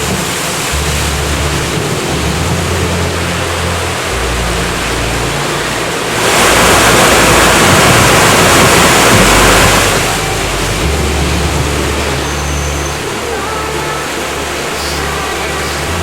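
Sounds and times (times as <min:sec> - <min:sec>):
low steady hum: 0:00.0 - 0:16.0
rushing water: 0:00.0 - 0:16.0.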